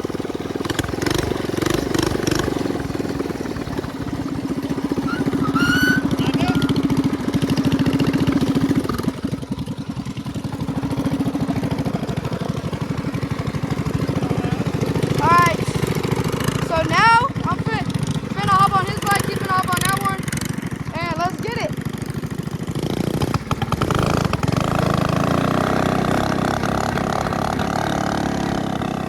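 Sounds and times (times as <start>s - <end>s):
minibike engine under throttle: 0.0s - 29.0s.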